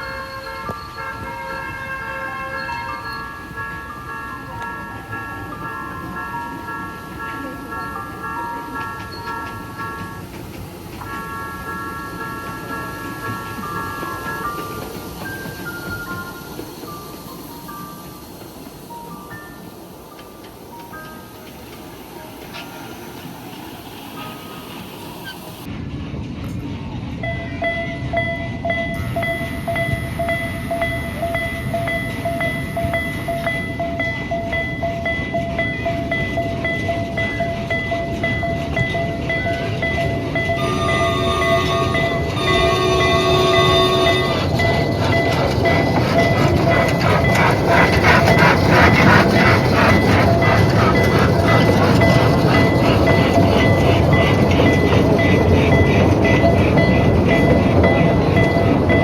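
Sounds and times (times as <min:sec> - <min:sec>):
miniature train rumble and clatter: 0:00.0 - 0:59.0.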